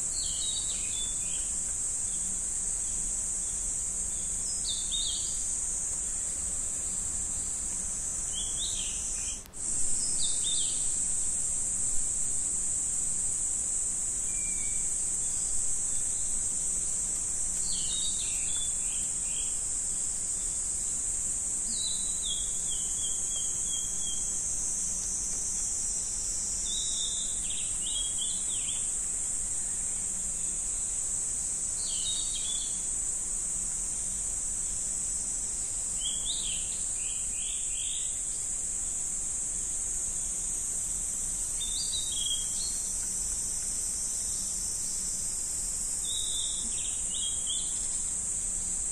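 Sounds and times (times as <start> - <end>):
high-pitched insect drone: 0.0 - 48.9
quick insect chirps: 0.0 - 48.9.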